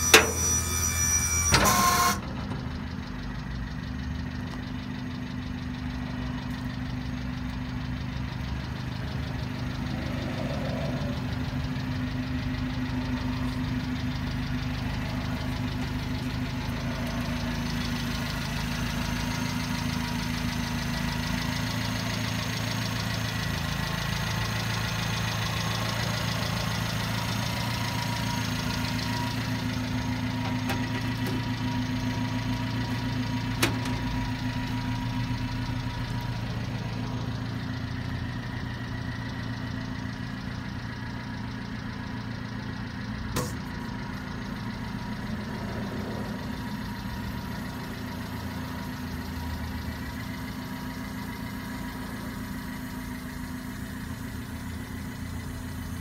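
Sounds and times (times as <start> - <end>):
small truck engine idling: 0.0 - 56.0.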